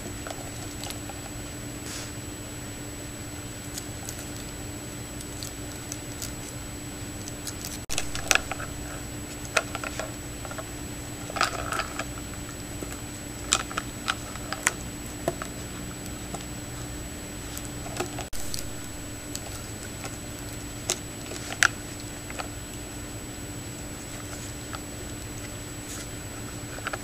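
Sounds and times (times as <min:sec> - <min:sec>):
steady low hum: 0:00.0 - 0:27.0
thin high whine: 0:00.0 - 0:27.0.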